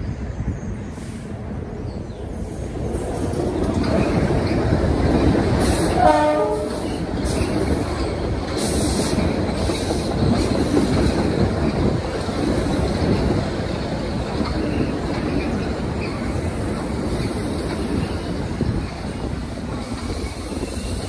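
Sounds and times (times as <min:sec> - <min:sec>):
train wheels clacking on rails: 0:01.8 - 0:21.0.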